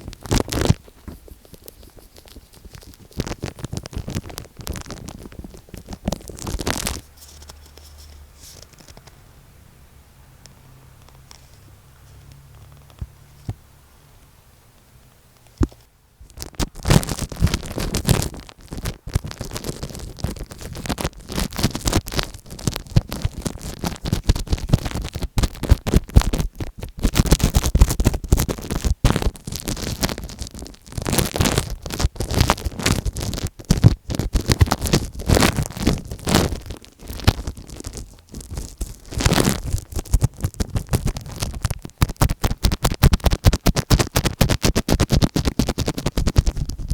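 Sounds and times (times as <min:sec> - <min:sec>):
scratching on microphone tape: 0:00.0 - 0:09.2, 0:15.4 - 0:46.9
quiet hiss: 0:00.0 - 0:46.9.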